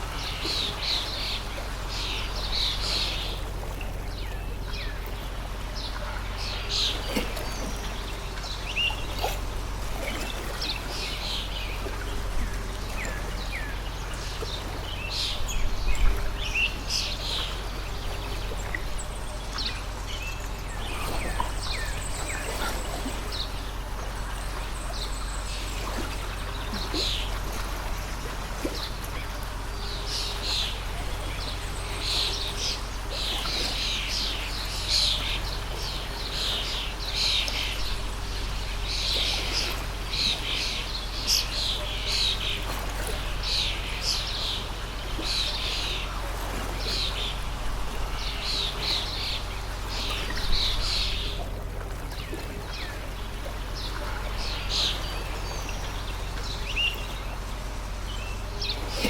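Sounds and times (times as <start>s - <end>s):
small birds chirping: 0.0s - 59.0s
stream water rushing: 0.0s - 59.0s.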